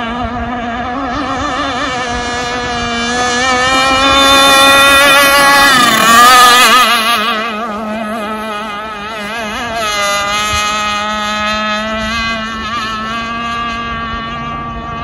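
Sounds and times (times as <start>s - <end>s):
rc boat engine whining: 0.0s - 15.0s.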